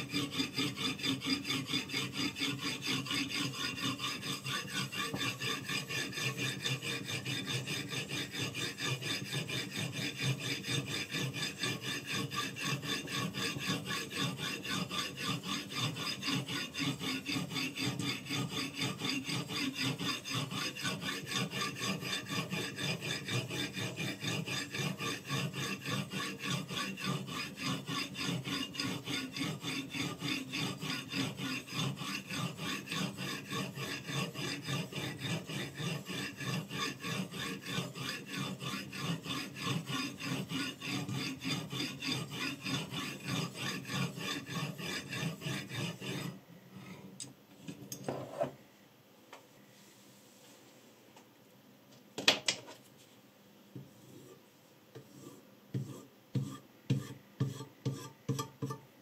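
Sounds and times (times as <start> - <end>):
stone scraping knife edge: 0.0 - 46.4, 55.0 - 58.8.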